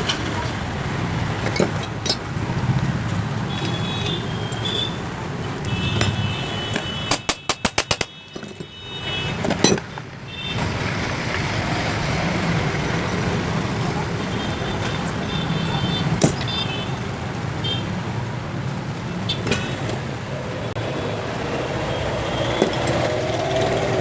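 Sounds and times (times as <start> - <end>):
street traffic noise: 0.0 - 24.0.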